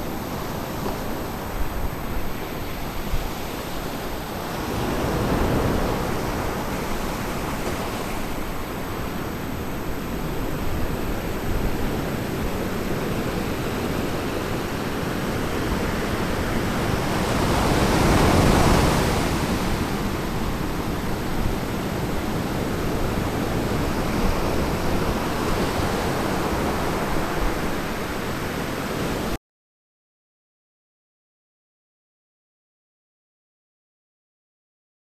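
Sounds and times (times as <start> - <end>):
ocean surf washing ashore: 0.0 - 29.4.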